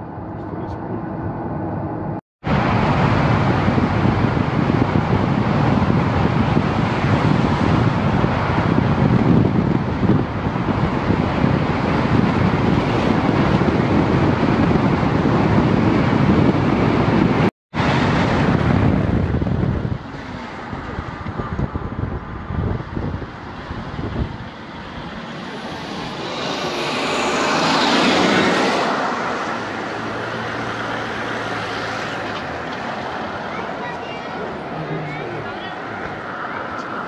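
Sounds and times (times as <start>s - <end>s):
wind and road noise from car: 0.0s - 37.0s.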